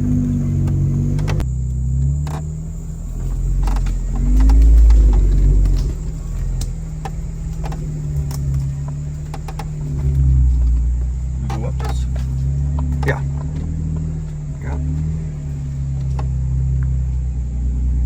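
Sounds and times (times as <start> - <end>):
knocks and clunks: 0.0 - 17.7
off-road vehicle engine: 0.0 - 18.0.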